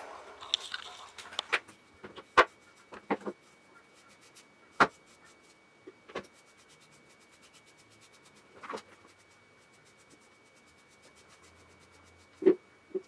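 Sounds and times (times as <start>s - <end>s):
comb scraping through wet fur: 0.2s - 1.5s, 2.5s - 5.6s, 6.2s - 12.6s.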